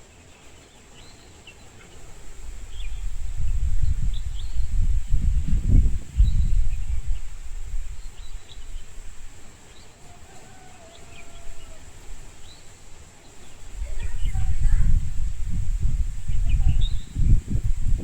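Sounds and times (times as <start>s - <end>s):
small birds chirping: 0.0s - 18.0s
wind buffeting microphone: 2.0s - 18.0s.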